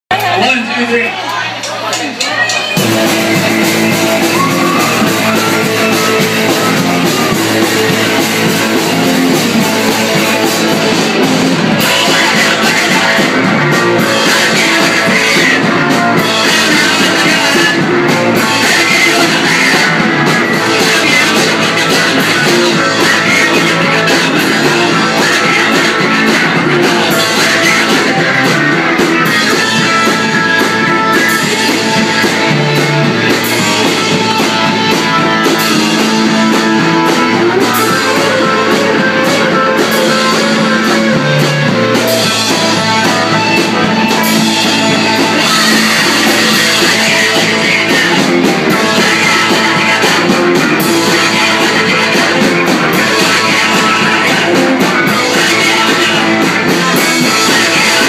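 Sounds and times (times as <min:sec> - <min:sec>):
live rock band playing: 0:00.1 - 0:58.0.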